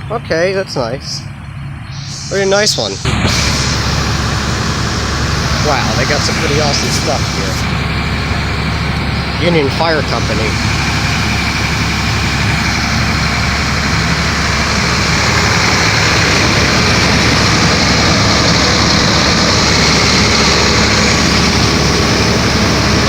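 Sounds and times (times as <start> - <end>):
heavy vehicle engine idling: 0.0 - 23.0.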